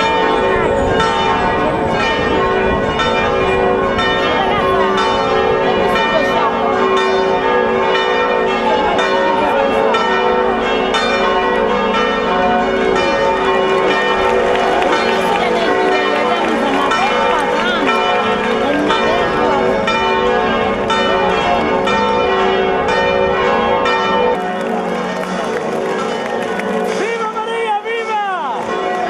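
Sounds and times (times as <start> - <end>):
crowd voices: 0.0 - 10.8, 12.7 - 23.3, 24.3 - 29.0
church bells pealing: 0.0 - 29.0.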